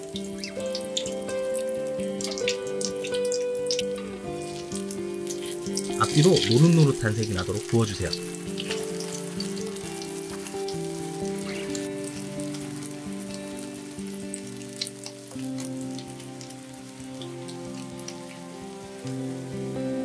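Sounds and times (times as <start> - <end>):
food sizzling in hot oil: 0.0 - 20.0
soft background music: 0.0 - 20.0.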